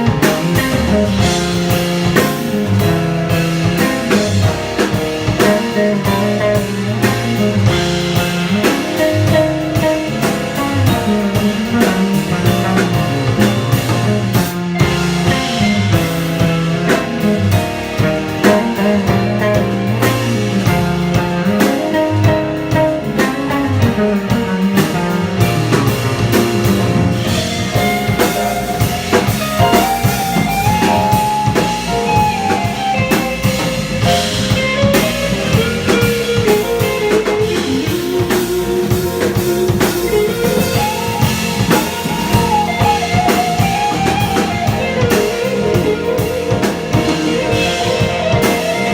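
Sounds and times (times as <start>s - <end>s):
bass: 0.0s - 48.9s
drum kit: 0.0s - 48.9s
electric guitar melody: 0.0s - 48.9s.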